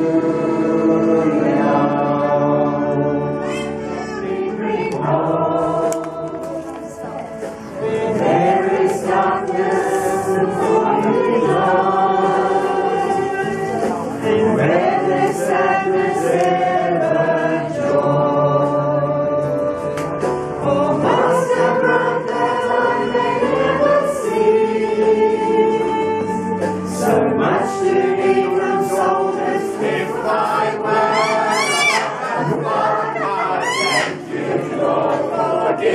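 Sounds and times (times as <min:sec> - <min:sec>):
congregation singing a hymn: 0:00.0 - 0:35.9.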